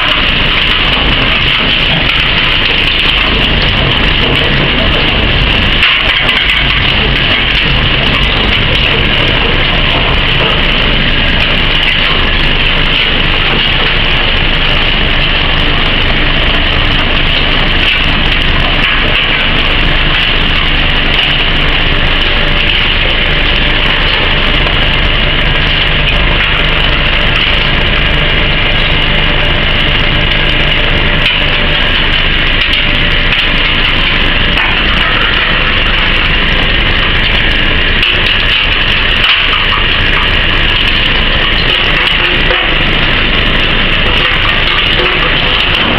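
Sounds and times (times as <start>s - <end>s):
shredder line mechanical din: 0.0s - 45.9s.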